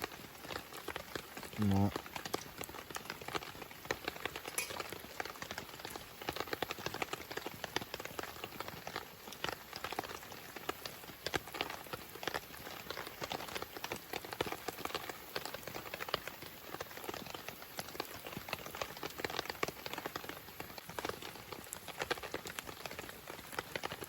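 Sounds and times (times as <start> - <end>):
food crackling over campfire: 0.0 - 24.0.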